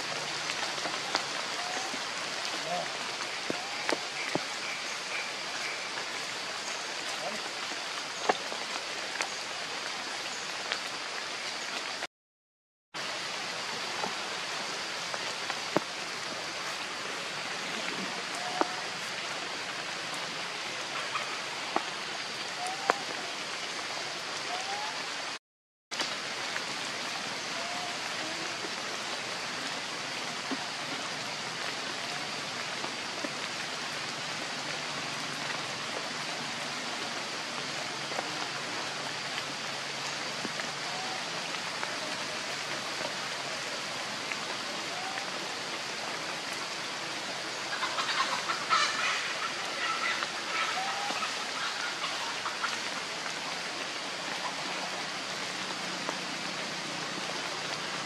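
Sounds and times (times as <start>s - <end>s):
steady rain hiss: 0.0s - 12.1s, 13.0s - 58.0s.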